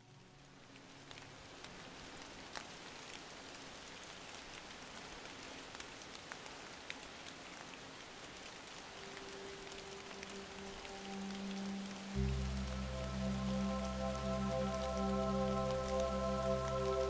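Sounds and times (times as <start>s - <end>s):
rain falling on trees: 0.0s - 17.0s
raindrops ticking close by: 0.0s - 17.0s.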